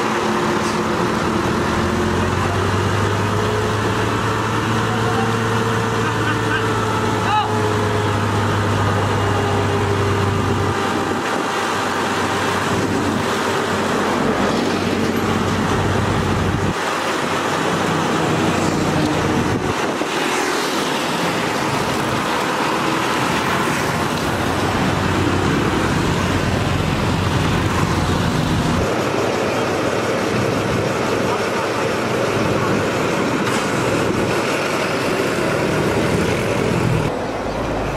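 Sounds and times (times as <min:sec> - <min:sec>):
low engine hum: 0:00.0 - 0:37.9
road traffic noise: 0:00.0 - 0:37.9.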